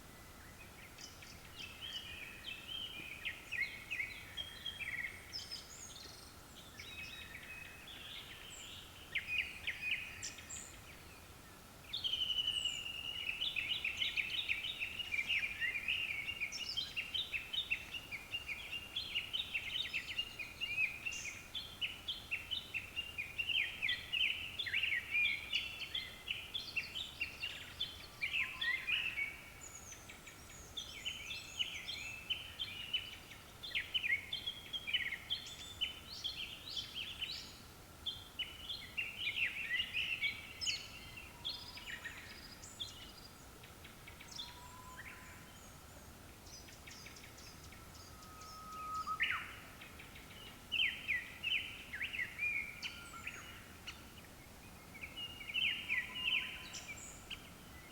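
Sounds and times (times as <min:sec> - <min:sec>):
faint steady tone: 0:00.0 - 0:57.9.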